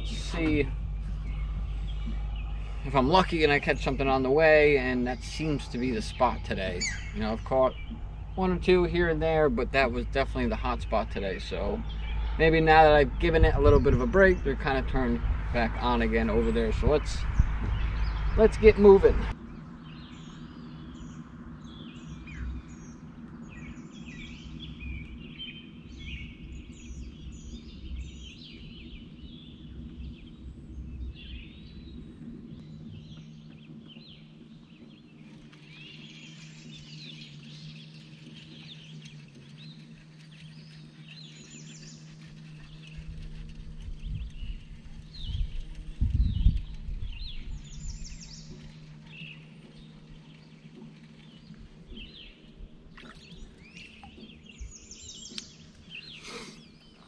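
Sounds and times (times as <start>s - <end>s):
birds chirping and singing: 0.0s - 57.0s
low rumbling bumps: 0.0s - 57.0s
trolling motor humming: 0.0s - 57.0s.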